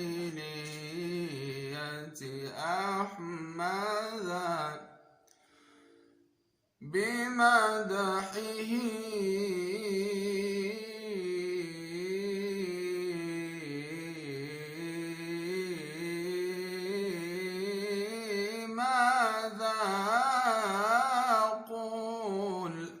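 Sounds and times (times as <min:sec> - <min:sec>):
man singing unaccompanied: 0:00.0 - 0:05.1, 0:06.8 - 0:23.0.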